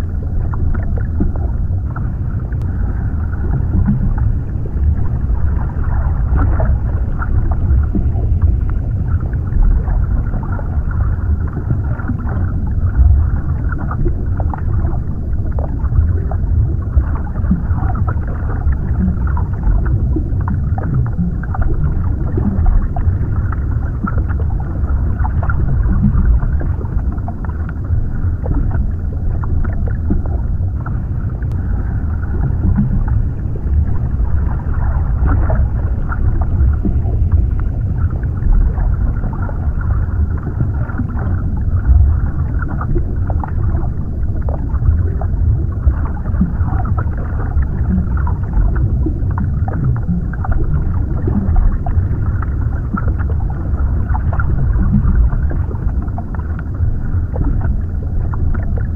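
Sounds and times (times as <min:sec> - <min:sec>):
muffled water movement: 0:00.0 - 0:58.9
small crackles and gurgles: 0:00.0 - 0:58.9
underwater deep rumble: 0:00.0 - 0:58.9.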